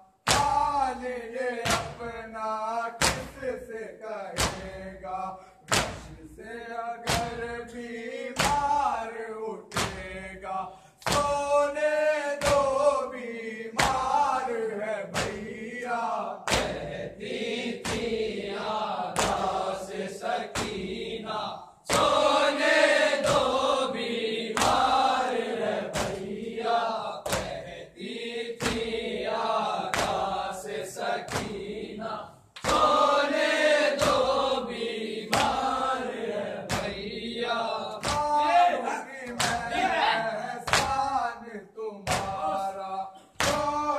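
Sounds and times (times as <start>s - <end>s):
men chanting in unison: 0.3s - 43.9s.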